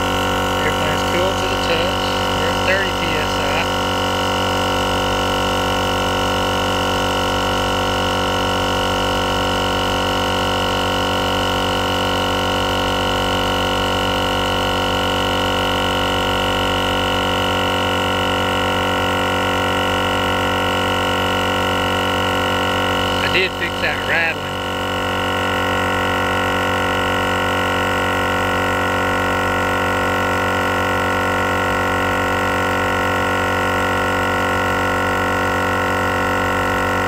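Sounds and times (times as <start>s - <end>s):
air compressor humming: 0.0s - 37.0s.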